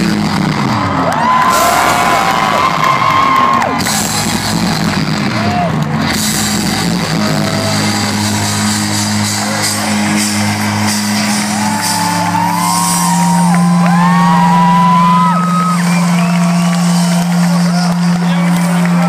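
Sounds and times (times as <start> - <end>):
rock band holding low chord: 0.0 - 19.0
crowd shouting and whooping: 0.1 - 19.0.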